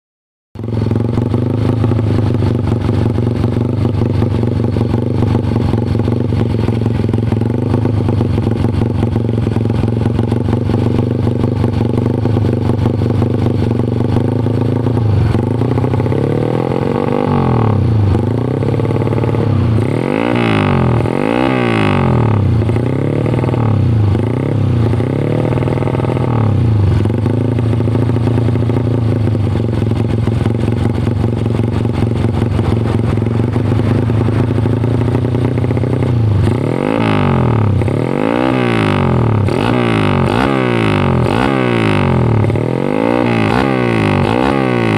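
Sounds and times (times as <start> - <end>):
motorcycle engine idling and revving: 0.6 - 44.9.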